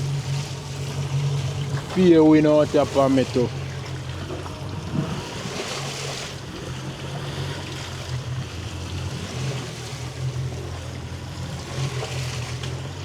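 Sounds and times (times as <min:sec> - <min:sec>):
boat engine humming: 0:00.0 - 0:13.0
water washing against hull: 0:00.0 - 0:13.0.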